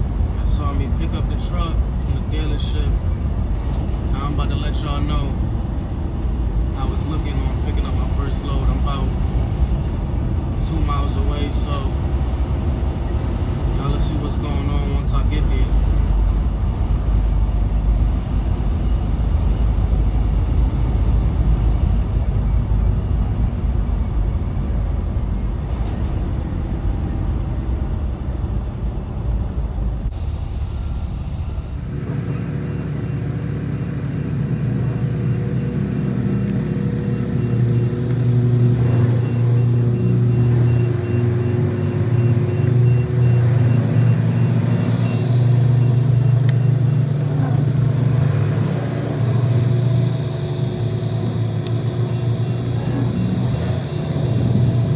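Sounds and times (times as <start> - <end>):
low engine hum: 0.0 - 54.9
truck engine and road rumble: 0.0 - 54.9.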